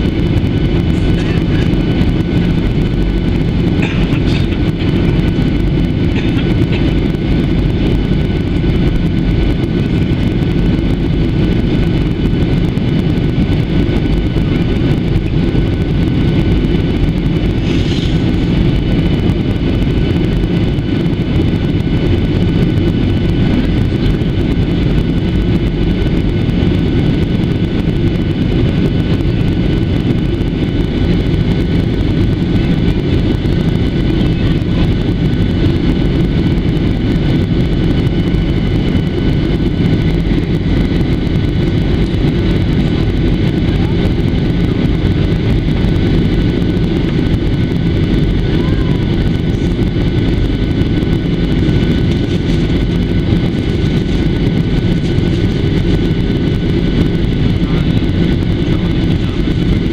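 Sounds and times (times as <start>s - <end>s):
airliner cabin rumble: 0.0s - 59.9s
faint jet engine whine: 0.0s - 59.9s.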